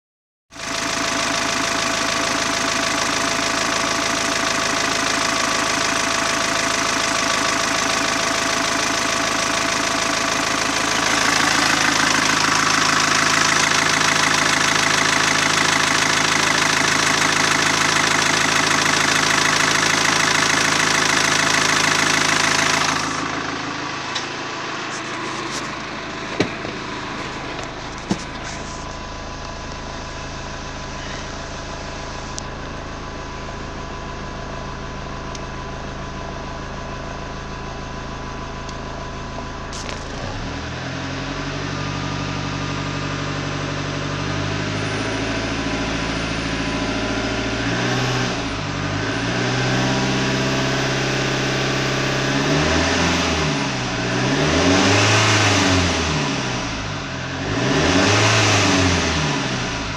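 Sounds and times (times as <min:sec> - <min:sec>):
diesel engine idling: 0:00.6 - 0:59.9.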